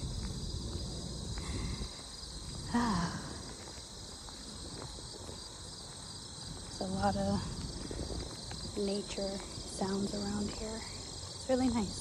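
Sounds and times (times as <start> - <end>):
chorus of field insects: 0.0 - 12.0.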